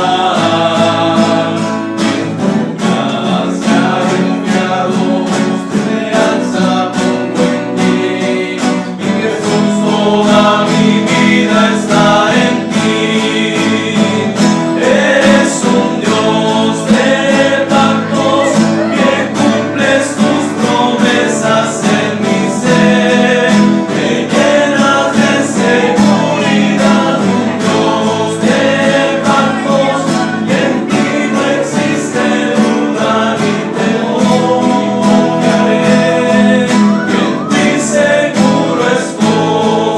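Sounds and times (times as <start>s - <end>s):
men singing in harmony: 0.0s - 39.9s
strummed and plucked guitars: 0.0s - 39.9s.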